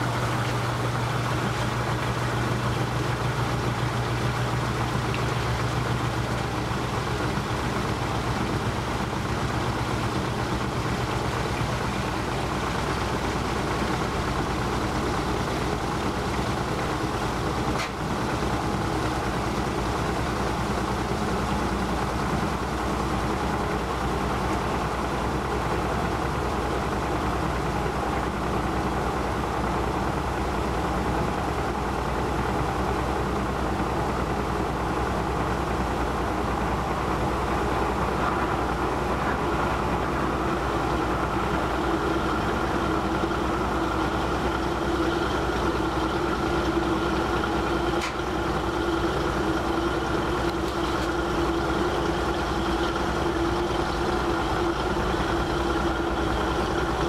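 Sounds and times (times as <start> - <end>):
washing machine spin hum: 0.0 - 57.0.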